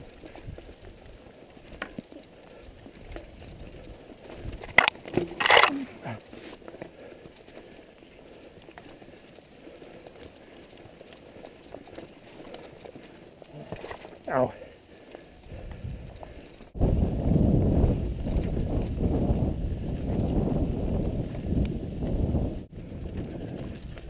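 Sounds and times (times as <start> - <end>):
bike rattles and clicks: 0.0 - 24.0
bike tyre and drivetrain noise: 0.0 - 24.0.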